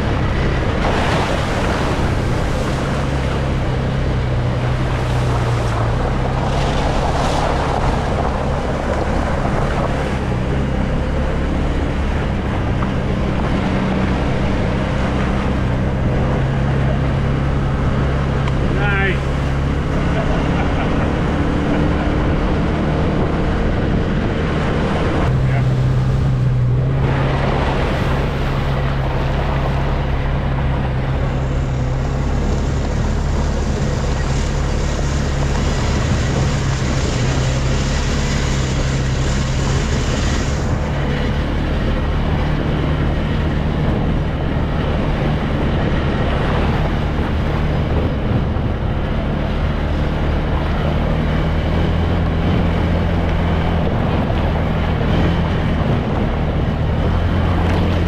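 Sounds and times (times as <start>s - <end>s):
atv engine running: 0.0s - 58.0s
wind on microphone: 0.0s - 58.0s.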